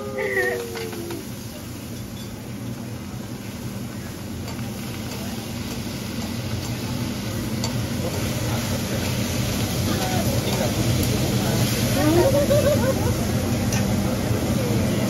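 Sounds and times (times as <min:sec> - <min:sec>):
food sizzling on griddle: 0:00.0 - 0:15.0.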